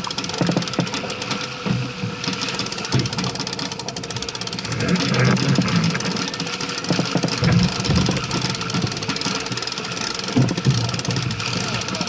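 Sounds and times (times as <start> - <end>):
yacht rushing through water: 0.0 - 12.0.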